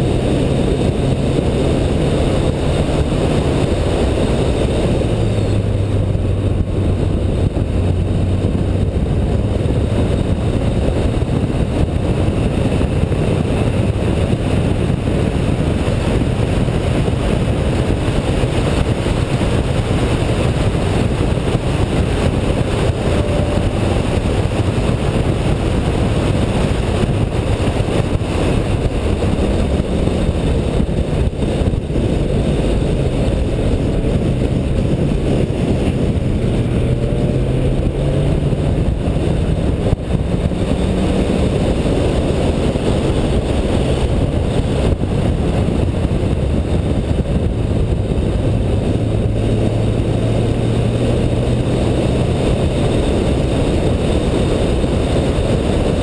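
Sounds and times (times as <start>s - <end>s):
race car engine and wind rumble: 0.0s - 56.0s.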